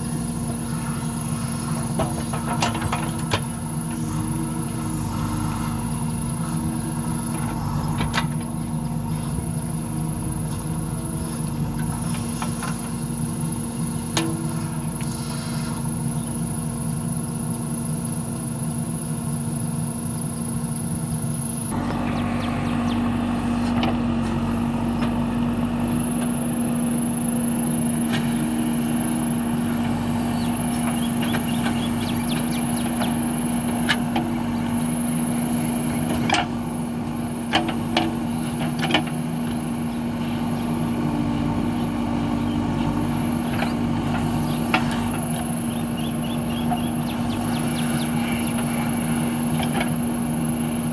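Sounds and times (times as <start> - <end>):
diesel engine under load: 0.0 - 50.9.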